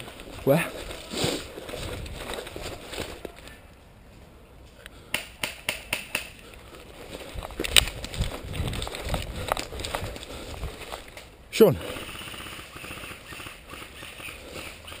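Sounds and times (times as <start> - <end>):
rustling of movement: 0.0 - 5.1, 6.1 - 15.0.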